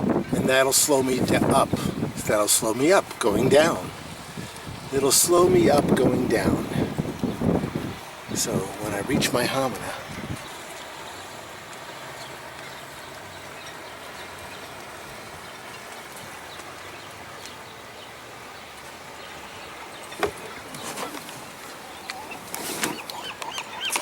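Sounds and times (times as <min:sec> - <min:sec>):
wind and water hissing: 0:00.0 - 0:24.0.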